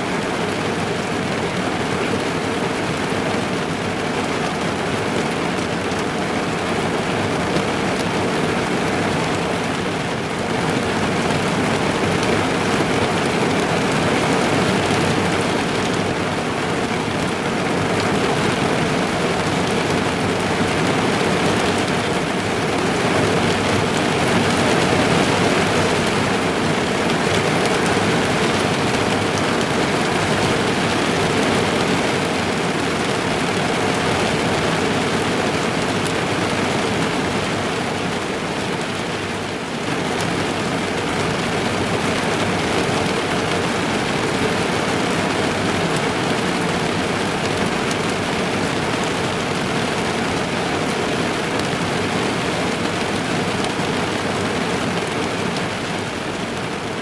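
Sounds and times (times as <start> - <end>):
heavy rain on car roof: 0.0 - 57.0.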